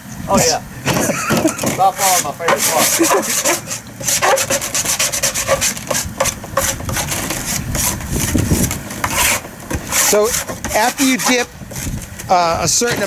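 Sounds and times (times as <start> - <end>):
metal scraper scraping wood: 0.9 - 13.0.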